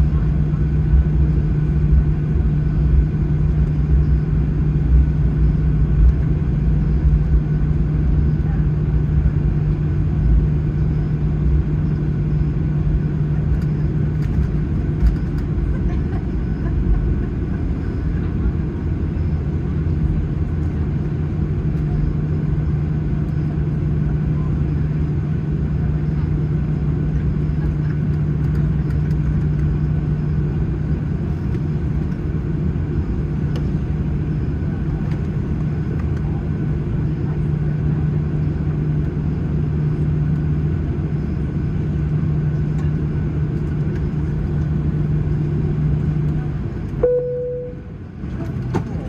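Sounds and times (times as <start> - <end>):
airplane cabin drone: 0.0 - 49.0.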